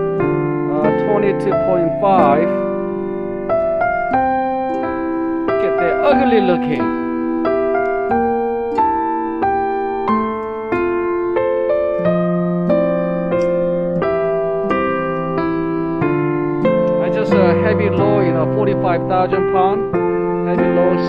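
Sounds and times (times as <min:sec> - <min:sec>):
slow keyboard melody: 0:00.0 - 0:21.0.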